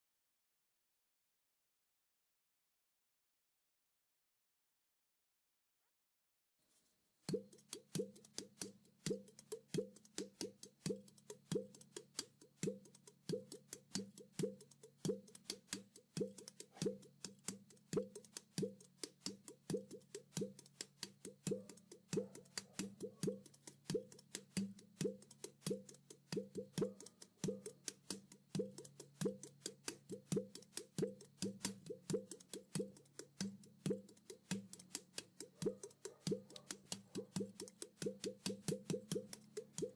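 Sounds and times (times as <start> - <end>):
clay pot drum played by hand: 7.3 - 39.9.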